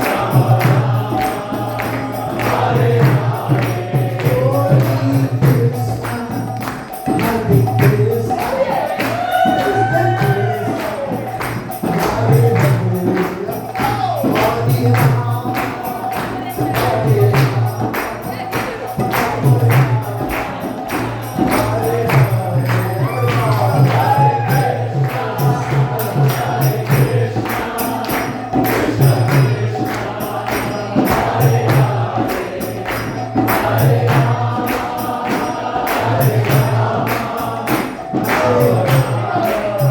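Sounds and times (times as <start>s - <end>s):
group of voices singing: 0.0s - 39.9s
small hand cymbals beat: 0.0s - 39.9s.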